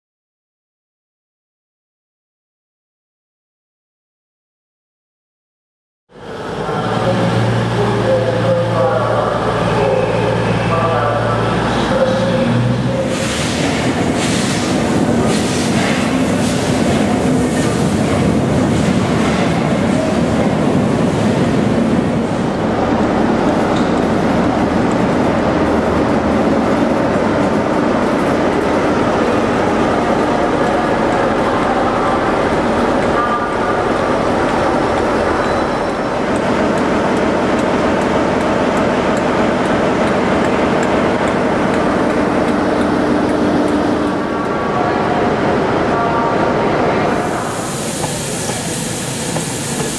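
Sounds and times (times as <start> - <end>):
train wheels running on rails: 6.3 - 49.9.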